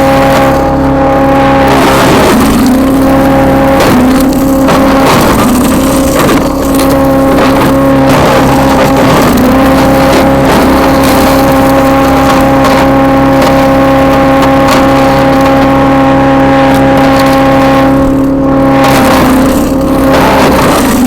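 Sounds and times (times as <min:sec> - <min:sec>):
wood chipper engine shredding branches: 0:00.0 - 0:21.0.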